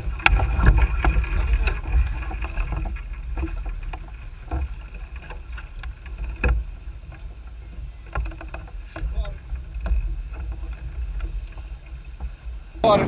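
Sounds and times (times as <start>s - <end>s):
water noise: 0.0s - 13.0s
wind rumbling on microphone: 0.0s - 13.0s.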